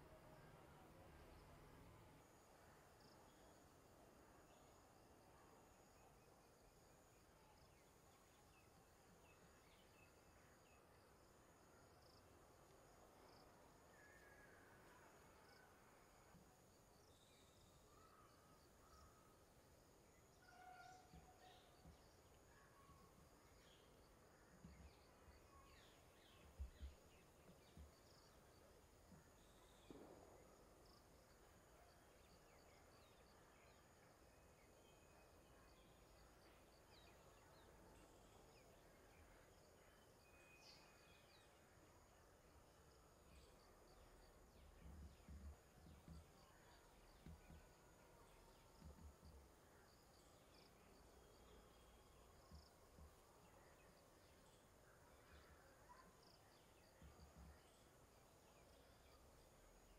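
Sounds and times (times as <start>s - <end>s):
insects: 0.0s - 59.9s
faint bird chirps: 4.4s - 59.9s.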